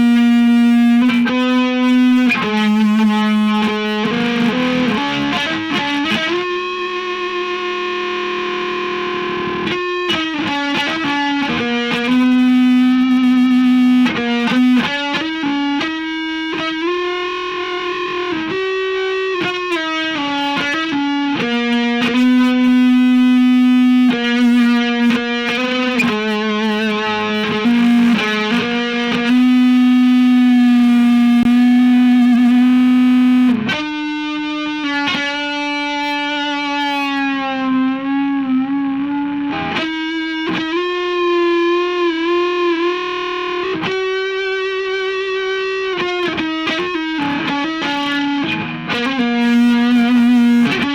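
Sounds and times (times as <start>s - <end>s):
distorted electric guitar: 0.0s - 50.9s.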